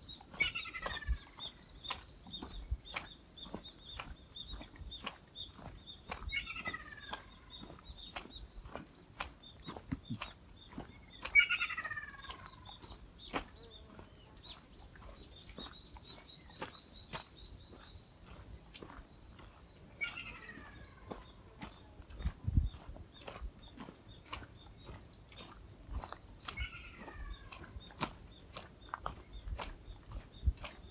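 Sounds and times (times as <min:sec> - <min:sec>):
bird chirps: 0:00.0 - 0:08.8, 0:09.4 - 0:30.9.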